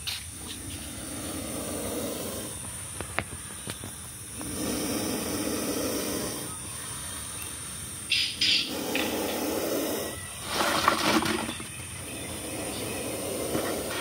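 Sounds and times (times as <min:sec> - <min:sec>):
snake hissing: 0:00.0 - 0:14.0.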